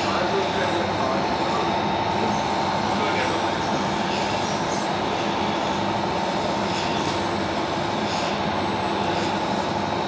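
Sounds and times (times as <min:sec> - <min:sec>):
mechanical hum: 0:00.0 - 0:10.0
thin steady whine: 0:00.0 - 0:10.0.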